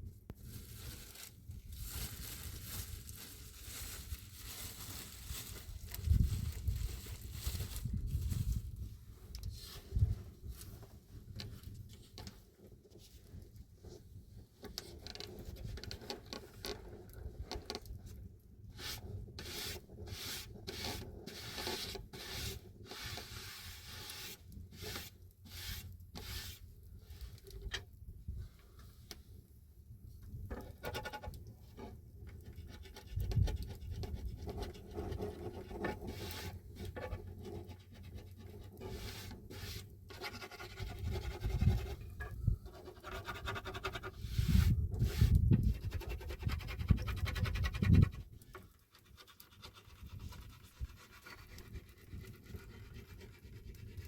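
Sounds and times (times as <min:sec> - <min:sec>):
scraping and rubbing strokes: 0:00.4 - 0:13.2, 0:18.7 - 0:27.7, 0:30.5 - 0:54.0.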